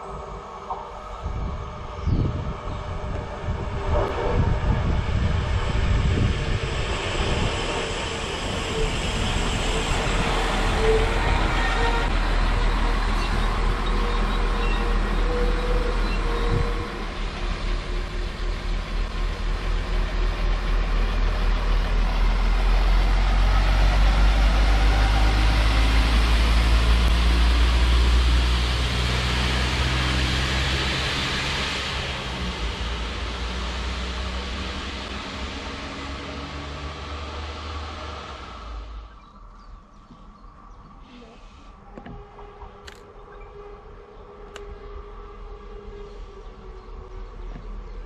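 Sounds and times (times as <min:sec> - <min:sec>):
railcar whine: 0:00.0 - 0:48.0.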